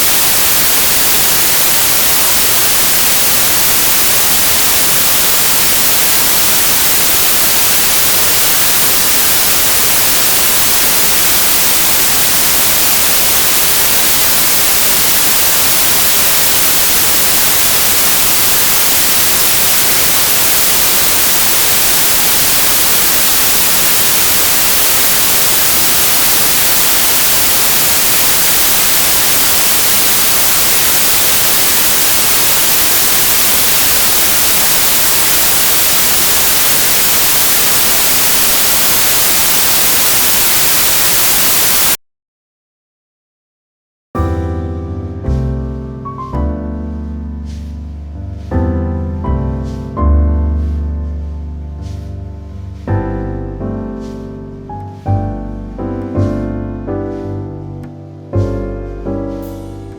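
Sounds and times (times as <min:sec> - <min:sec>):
loud white noise hiss: 0:00.0 - 0:42.0, 0:45.3 - 0:59.9.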